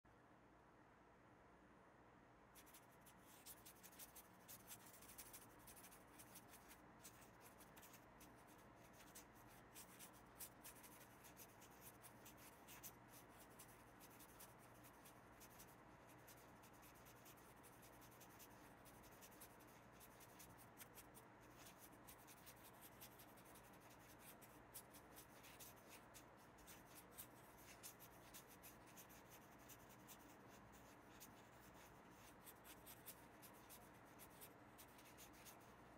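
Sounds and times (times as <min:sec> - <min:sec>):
paintbrush scratching on paper: 0:02.6 - 0:35.9.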